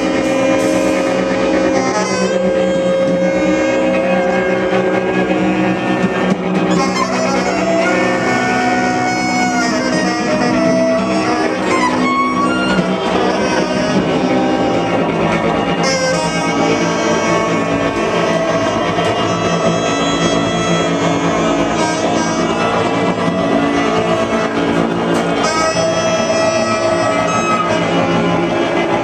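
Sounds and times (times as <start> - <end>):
drone of held notes: 0.0 - 29.0
saxophone sliding in pitch: 0.0 - 29.0.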